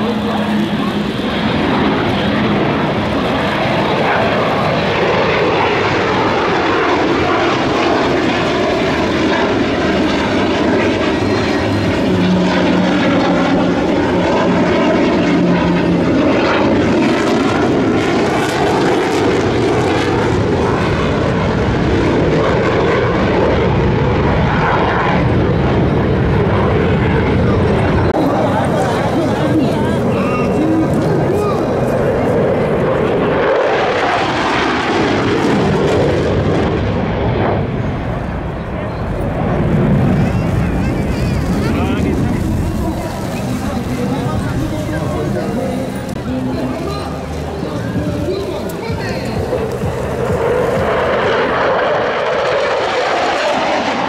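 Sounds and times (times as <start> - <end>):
jet afterburner: 0.0 - 54.0
jet engine roar: 0.0 - 54.0.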